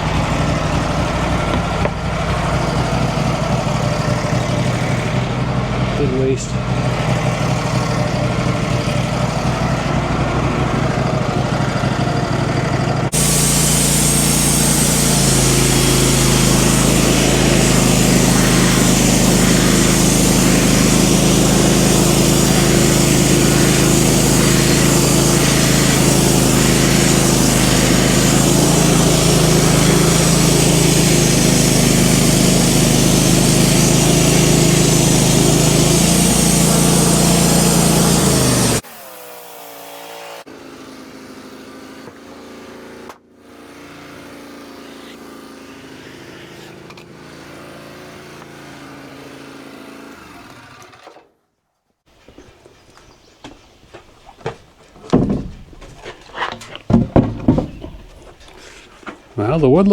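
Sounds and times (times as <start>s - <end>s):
band blade cutting log: 0.0s - 5.4s, 13.0s - 51.3s, 55.1s - 59.5s
sawmill engine running: 0.0s - 51.3s, 52.9s - 59.9s.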